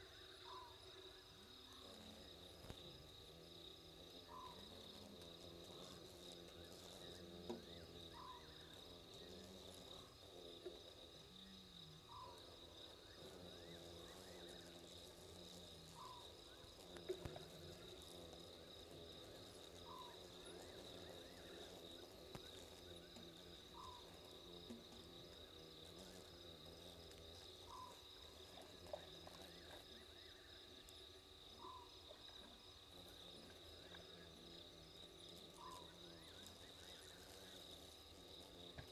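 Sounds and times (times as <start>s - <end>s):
crickets trilling: 0.0s - 38.9s
short insect call: 0.0s - 38.9s.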